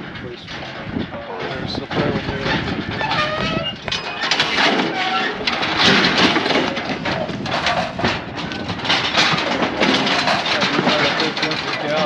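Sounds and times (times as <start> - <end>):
metal gates clanging and rattling: 0.0 - 12.0.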